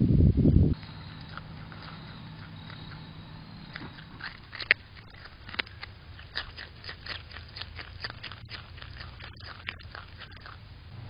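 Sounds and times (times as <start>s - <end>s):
groundhog chewing carrot: 0.7s - 10.9s.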